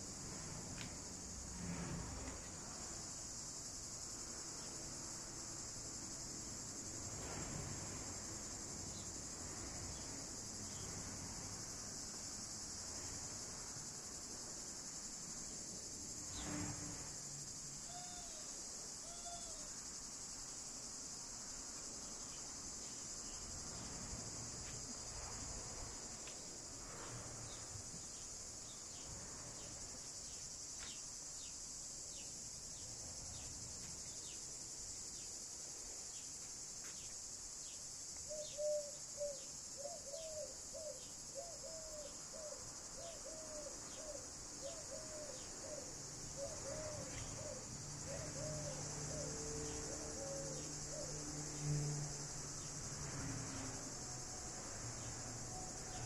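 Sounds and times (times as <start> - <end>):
high insect chorus: 0.0 - 56.0.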